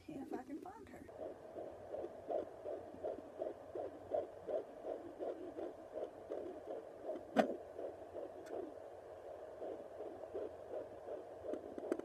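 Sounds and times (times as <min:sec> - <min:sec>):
fetal heartbeat whooshing pulse: 0:00.0 - 0:12.0.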